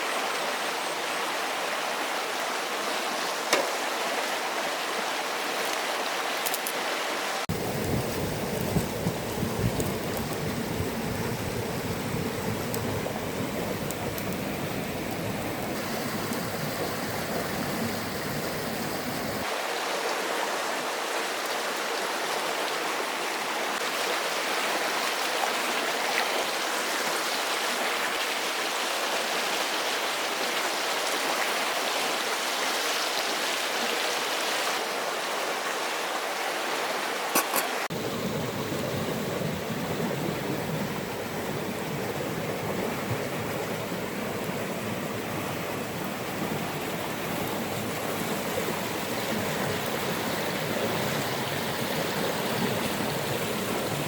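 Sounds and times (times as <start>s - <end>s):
rushing water noise: 0.0s - 54.0s.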